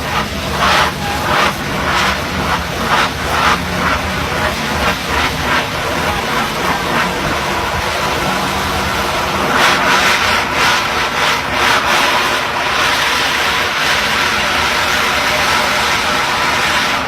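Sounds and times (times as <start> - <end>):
drilling rig machinery running: 0.0 - 17.0.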